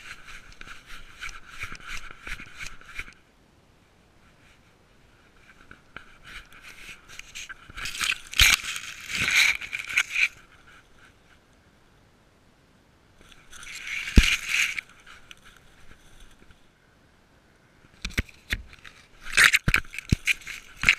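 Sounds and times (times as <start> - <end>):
dry grass and twigs crackling: 0.0 - 3.2, 4.2 - 11.7, 13.2 - 16.7, 17.8 - 20.9.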